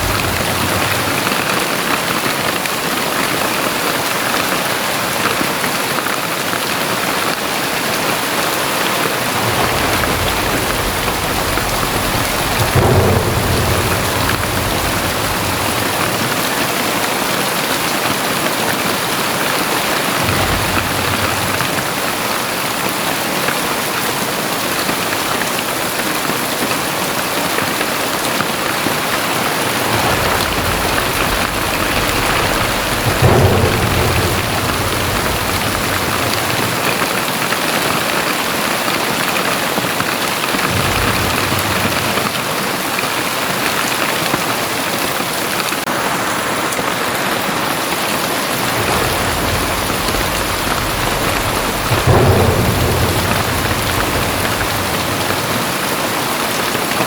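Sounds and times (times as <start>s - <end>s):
low thunder rumble: 0.0s - 3.9s, 7.2s - 39.6s, 40.4s - 46.1s, 47.9s - 57.0s
heavy rain pouring: 0.0s - 57.0s.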